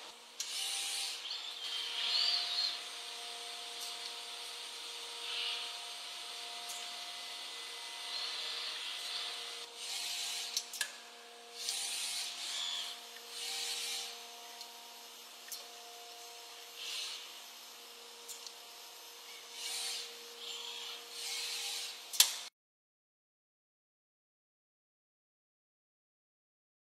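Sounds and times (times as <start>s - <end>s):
machine hum with held tones: 0.0s - 22.1s.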